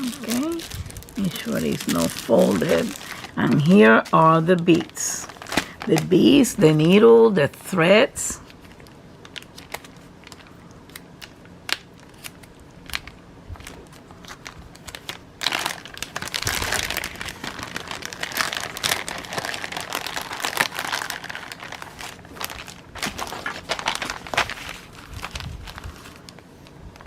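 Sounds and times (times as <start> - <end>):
plastic bags crinkling: 0.0 - 7.0, 8.4 - 27.0.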